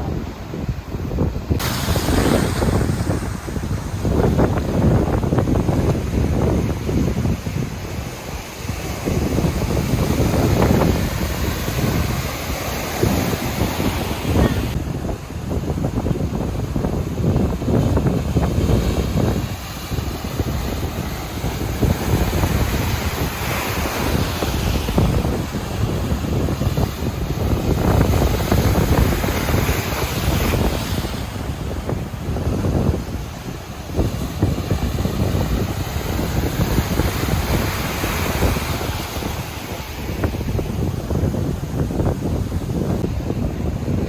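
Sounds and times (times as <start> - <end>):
ocean surf: 0.0 - 44.0
wind buffeting microphone: 0.0 - 44.0.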